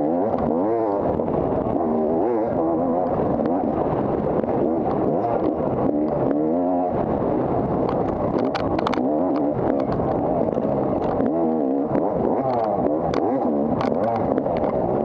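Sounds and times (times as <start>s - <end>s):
dirt bike engine revving: 0.0s - 7.1s, 8.3s - 15.0s.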